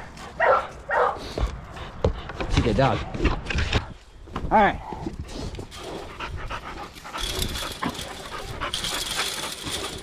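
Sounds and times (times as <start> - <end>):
dog panting: 0.0 - 3.2, 5.1 - 10.0.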